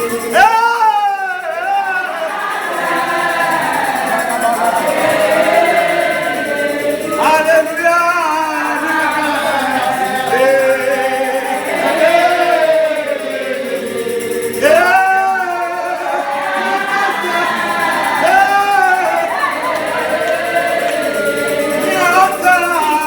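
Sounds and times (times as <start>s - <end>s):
group singing a hymn: 0.0s - 23.0s.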